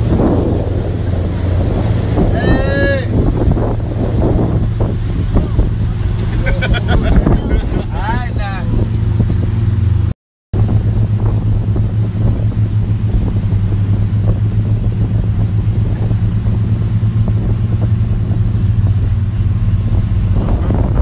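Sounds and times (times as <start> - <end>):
motorboat engine humming: 0.0 - 21.0.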